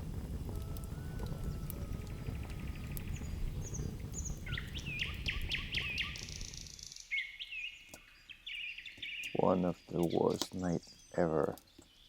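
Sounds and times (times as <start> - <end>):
songbird singing: 0.4 - 12.0.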